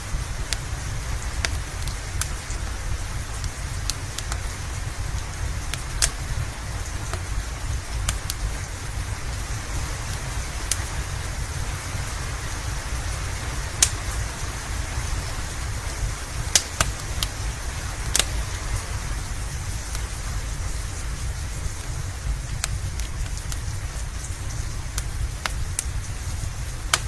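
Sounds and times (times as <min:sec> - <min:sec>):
steady rain: 0:00.0 - 0:27.0
wood fire crackling: 0:00.0 - 0:27.0
fire popping sharply: 0:00.1 - 0:11.6, 0:13.1 - 0:27.0.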